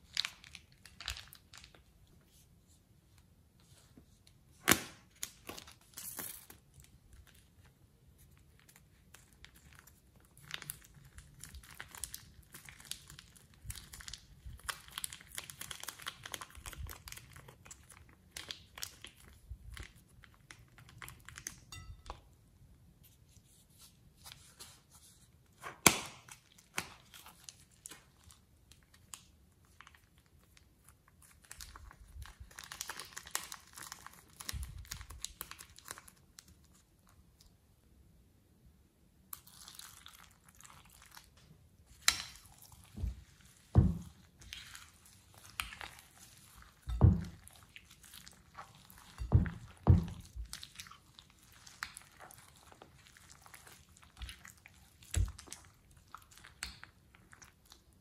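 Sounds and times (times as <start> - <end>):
plastic piping bag crinkling: 0.0 - 2.4, 4.5 - 22.3, 24.4 - 37.5, 39.3 - 58.0.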